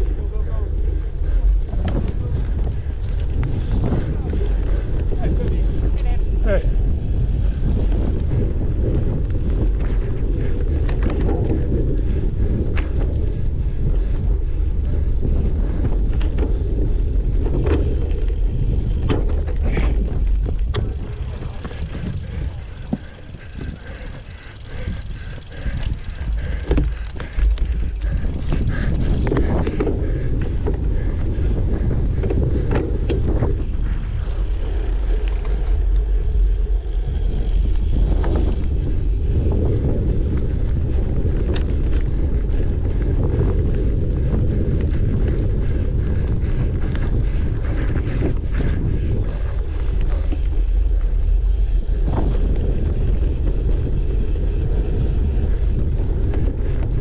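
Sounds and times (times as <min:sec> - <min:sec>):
bike rattling over rough ground: 0:00.0 - 0:57.0
wind buffeting microphone: 0:00.0 - 0:57.0.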